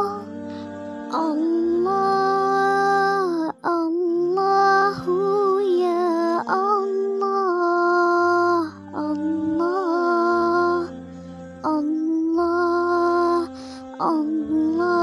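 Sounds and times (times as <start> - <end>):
person chanting ornamented notes: 0.0 - 15.0.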